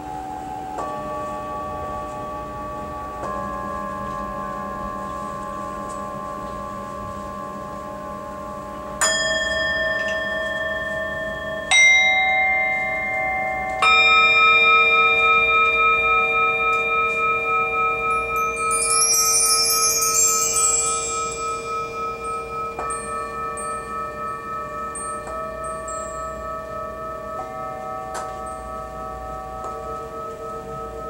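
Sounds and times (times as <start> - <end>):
resonant bells ringing: 0.0 - 31.0.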